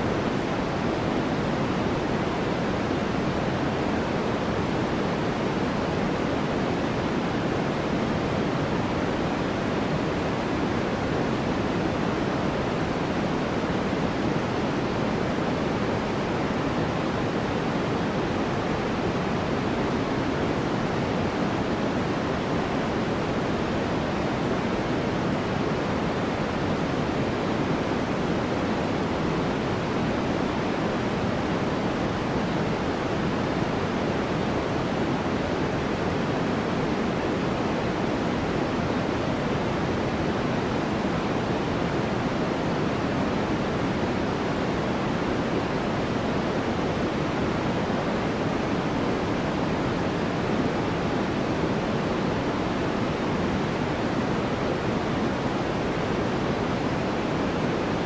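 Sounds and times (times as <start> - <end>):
steady deep white noise hiss: 0.0 - 58.0.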